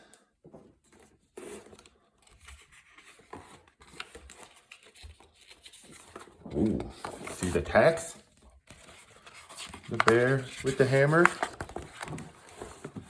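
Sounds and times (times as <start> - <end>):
paper rustling and scratching: 0.8 - 13.0.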